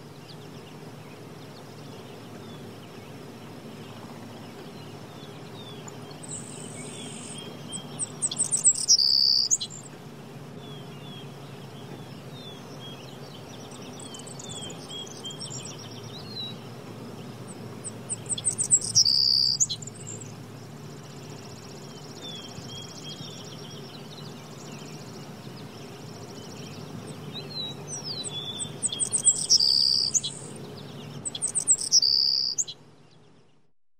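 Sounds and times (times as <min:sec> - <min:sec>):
steady low hum: 0:00.0 - 0:31.8
birds chirping softly: 0:00.0 - 0:33.7
songbird trilling: 0:03.8 - 0:10.0, 0:10.6 - 0:32.8.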